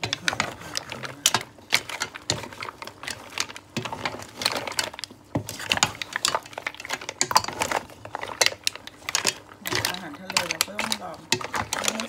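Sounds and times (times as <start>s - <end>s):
mussel shells clattering in pan: 0.0s - 12.0s.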